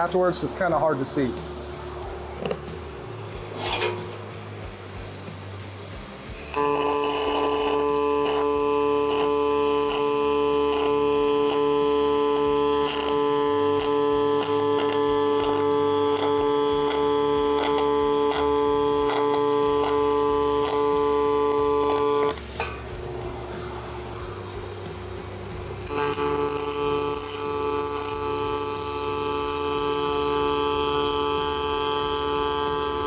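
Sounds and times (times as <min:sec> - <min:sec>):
welding arc buzzing and crackling: 0:02.4 - 0:33.0.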